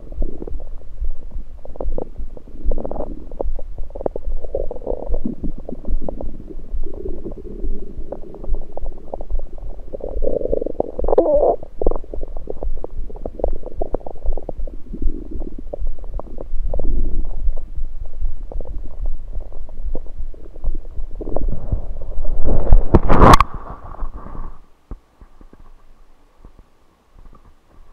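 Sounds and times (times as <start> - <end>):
stomach gurgling: 0.0 - 24.6, 27.2 - 27.8.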